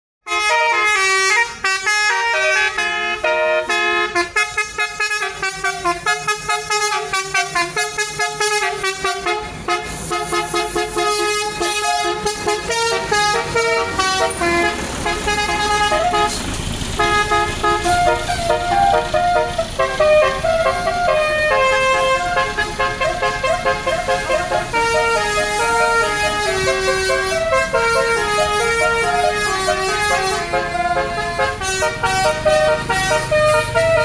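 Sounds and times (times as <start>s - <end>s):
multi-tone bus horn tune: 0.2s - 34.0s.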